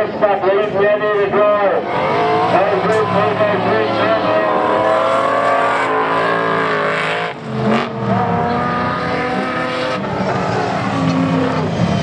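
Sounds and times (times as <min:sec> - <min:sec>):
racing car engines revving: 0:00.0 - 0:12.0.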